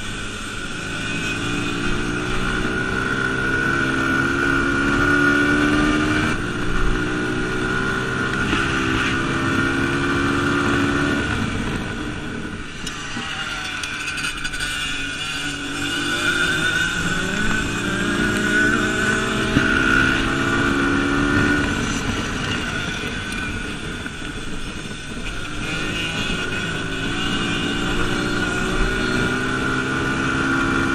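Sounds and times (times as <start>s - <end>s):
dirt bike engine revving: 0.0s - 23.9s, 25.2s - 30.9s.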